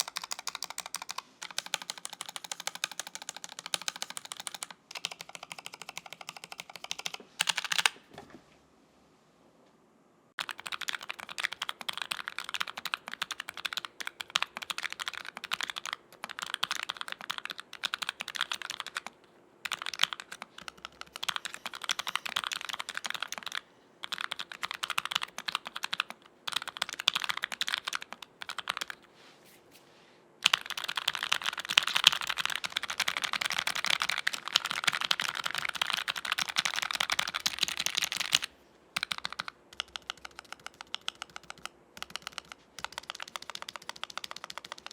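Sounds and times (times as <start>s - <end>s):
mechanical keyboard typing: 0.0s - 8.0s, 10.4s - 29.0s, 30.4s - 44.9s.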